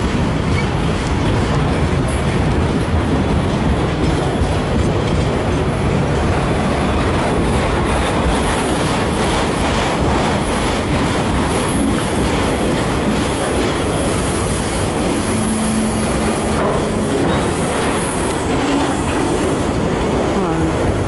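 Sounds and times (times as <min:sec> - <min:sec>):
rail joint clicks: 0:00.0 - 0:20.4
train wheels rumbling on rail: 0:00.0 - 0:21.0.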